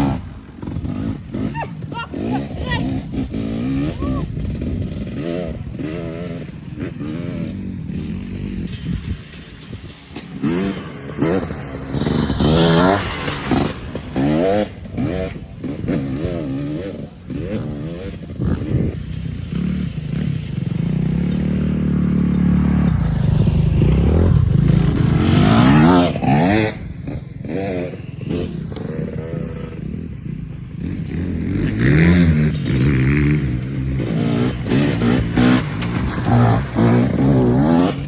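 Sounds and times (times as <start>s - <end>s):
motocross engine revving: 0.0s - 38.0s.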